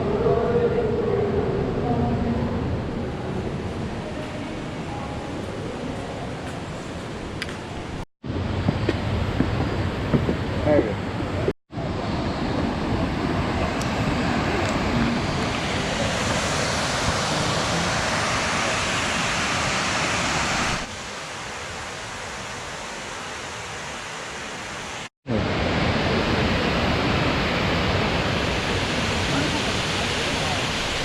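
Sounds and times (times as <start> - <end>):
waterfall roaring: 3.0 - 31.0.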